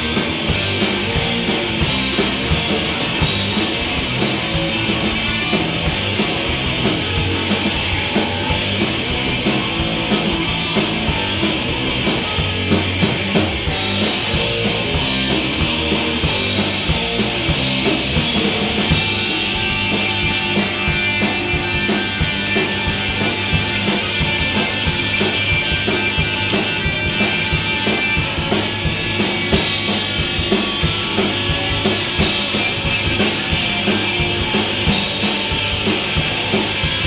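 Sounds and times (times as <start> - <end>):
drum kit: 0.0 - 37.0
electric guitar: 0.0 - 37.0.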